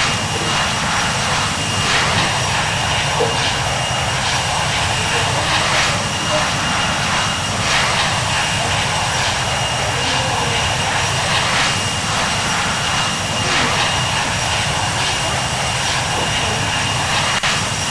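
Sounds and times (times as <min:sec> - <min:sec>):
aircraft engine noise: 0:00.0 - 0:17.9
thin high whine: 0:00.0 - 0:17.9.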